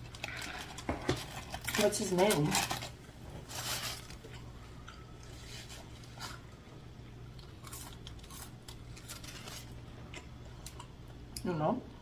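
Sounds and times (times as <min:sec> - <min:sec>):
person chewing and crunching food: 0:00.0 - 0:11.4
steady low hum: 0:00.0 - 0:12.0.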